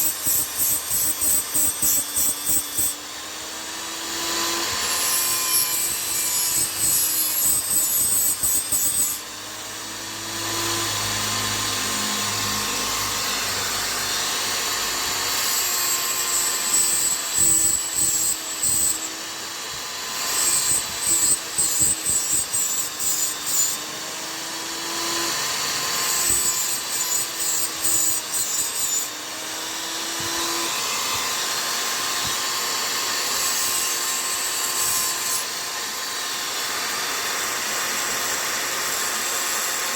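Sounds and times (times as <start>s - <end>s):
chisel scraping on abrasive: 0.0s - 3.1s, 4.1s - 39.9s.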